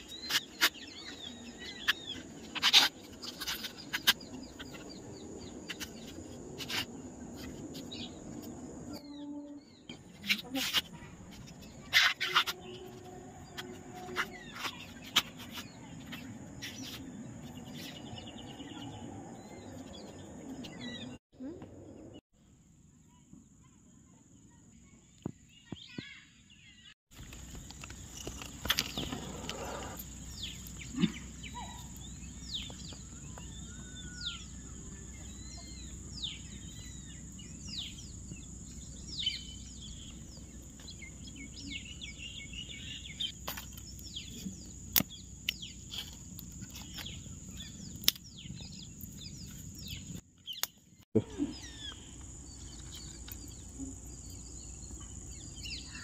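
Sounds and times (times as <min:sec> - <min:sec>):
birds chirping: 0:00.0 - 0:22.2, 0:24.4 - 0:56.0.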